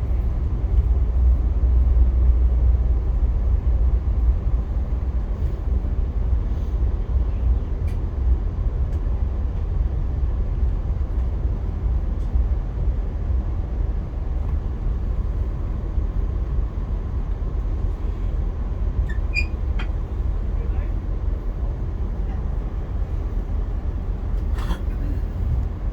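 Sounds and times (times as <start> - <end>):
train rumbling on track: 0.0 - 25.9.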